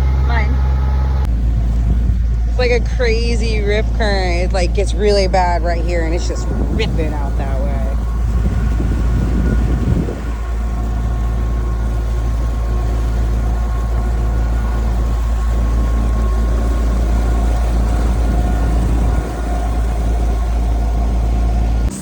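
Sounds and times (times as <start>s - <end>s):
boat engine rumbling: 0.0s - 22.0s.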